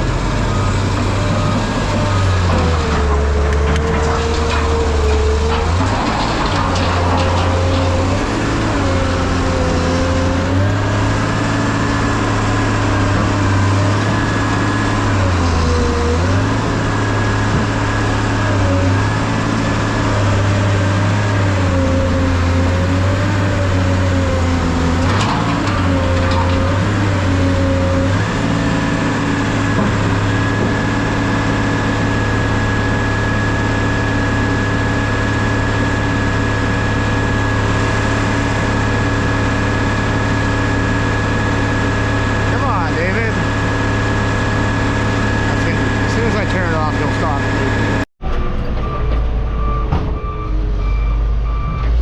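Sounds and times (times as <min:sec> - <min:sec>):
heavy engine running: 0:00.0 - 0:52.0.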